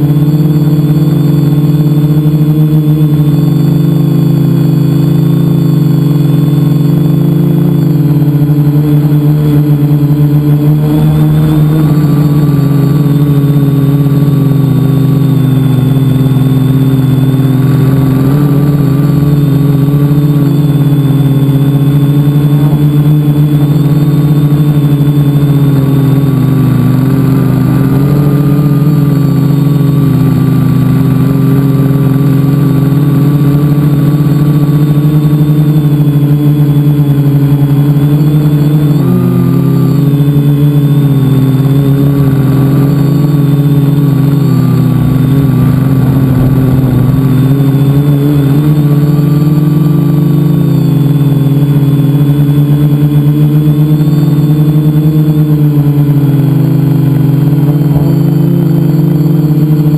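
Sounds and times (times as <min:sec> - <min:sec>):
drone motors and propellers humming: 0:00.0 - 0:59.9.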